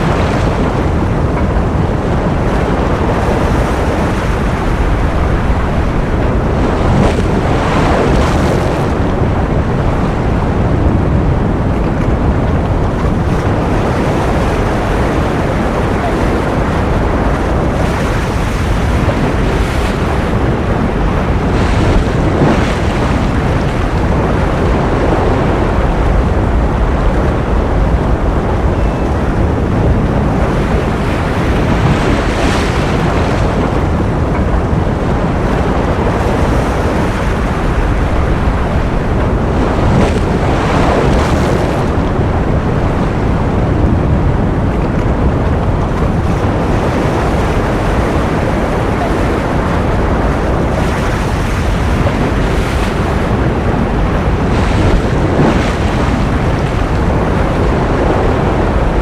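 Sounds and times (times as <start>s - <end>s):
ocean waves rushing: 0.0s - 59.0s.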